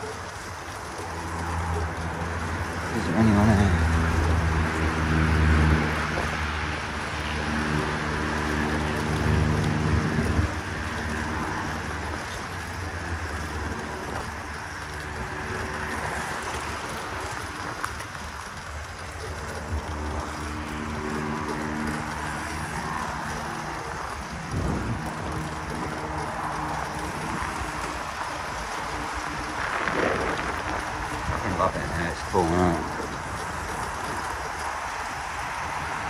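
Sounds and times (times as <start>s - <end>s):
low motor hum: 0.0s - 36.0s
wind and tyre noise: 0.0s - 36.0s.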